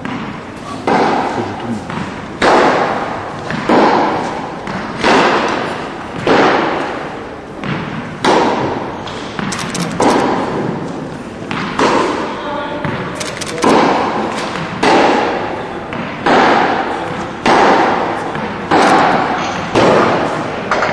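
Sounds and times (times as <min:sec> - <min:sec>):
tennis ball hit with rackets: 0:00.0 - 0:13.1, 0:13.7 - 0:20.9.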